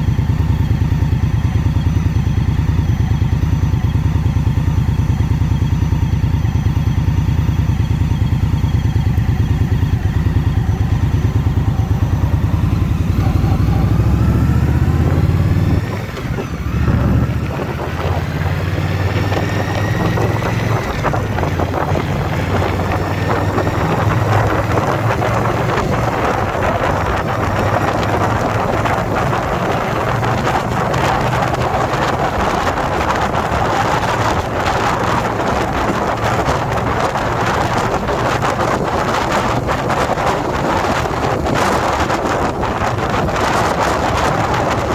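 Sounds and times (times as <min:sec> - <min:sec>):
motorcycle engine accelerating: 0:00.0 - 0:44.9
wind rush on microphone: 0:06.7 - 0:44.9.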